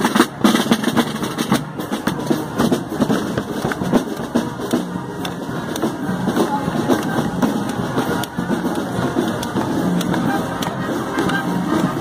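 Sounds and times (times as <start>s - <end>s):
crowd voices: 0.0s - 12.0s.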